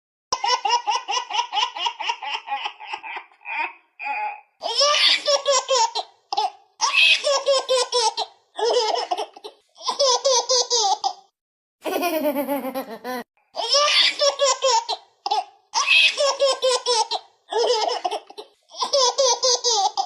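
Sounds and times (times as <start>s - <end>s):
baby laughing: 0.3s - 20.0s.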